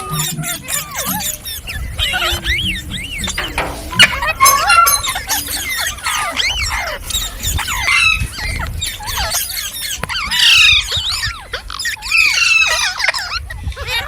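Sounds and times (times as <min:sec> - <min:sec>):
parrots screeching and squawking: 0:00.0 - 0:14.0.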